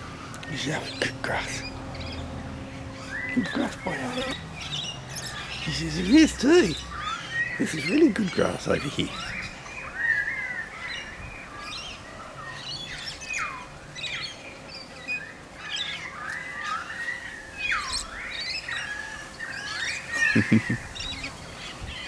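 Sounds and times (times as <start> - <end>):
birds squawking and chirping: 0.0 - 22.0.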